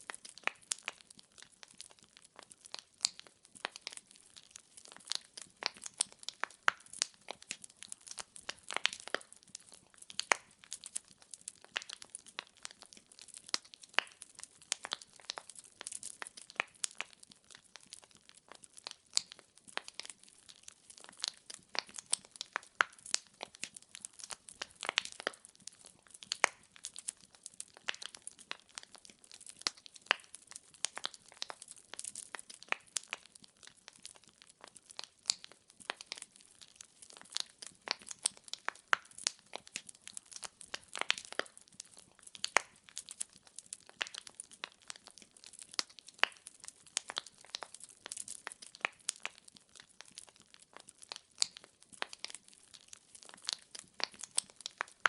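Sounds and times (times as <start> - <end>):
firewood crackling: 0.0 - 55.0.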